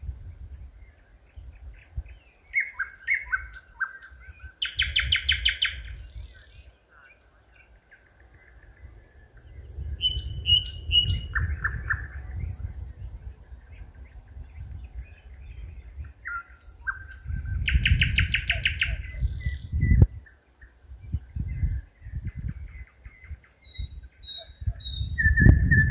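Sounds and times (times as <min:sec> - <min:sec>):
wind rumble on microphone: 0:00.0 - 0:06.7, 0:07.6 - 0:25.9
nightingale singing: 0:00.4 - 0:25.9.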